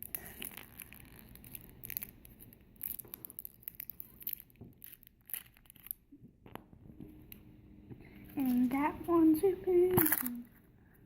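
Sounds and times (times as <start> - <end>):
plastic crinkling and scraping: 0.0 - 7.1, 8.3 - 10.7.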